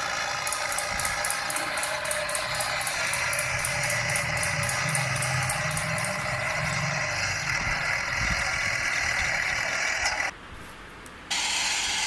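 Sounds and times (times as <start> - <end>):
toy truck engine running: 0.0 - 10.3.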